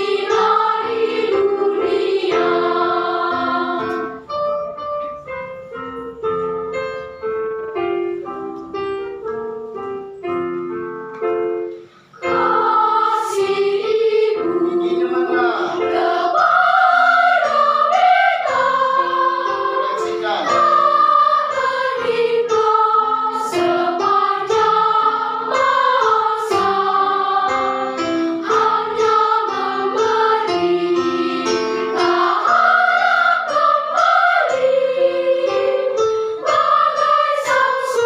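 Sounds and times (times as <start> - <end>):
children's choir singing: 0.0 - 5.5, 12.2 - 38.0
piano accompaniment: 0.0 - 38.0.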